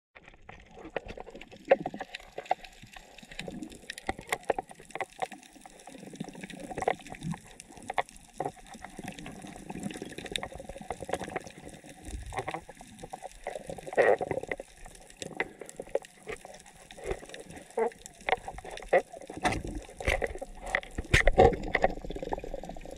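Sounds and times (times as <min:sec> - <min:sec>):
underwater churning and gurgling: 0:00.2 - 0:22.9
sharp underwater clicks: 0:01.8 - 0:22.5.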